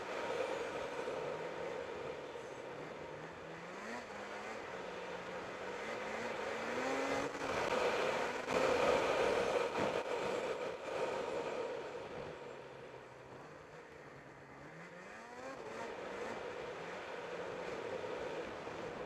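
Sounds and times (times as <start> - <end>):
snowmobile engine revving: 0.0 - 12.5, 13.5 - 19.0.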